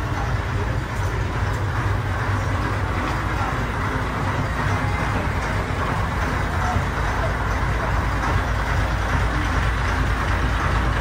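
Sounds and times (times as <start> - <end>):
ferry engine rumble: 0.0 - 11.0.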